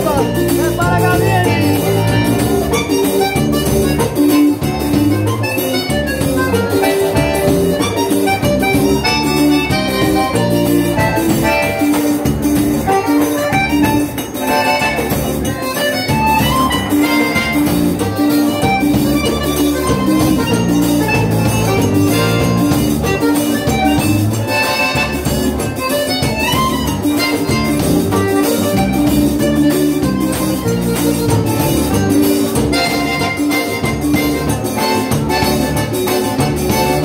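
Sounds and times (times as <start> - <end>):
drum kit beat: 0.0 - 37.0
electric bass guitar: 0.0 - 37.0
piano accordion: 0.0 - 37.0.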